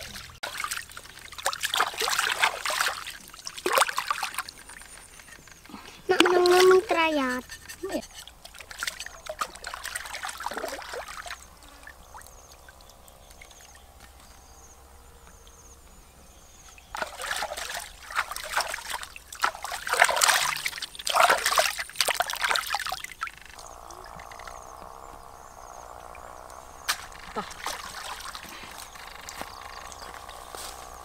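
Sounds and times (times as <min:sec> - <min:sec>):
water splashing and trickling: 0:00.0 - 0:31.0.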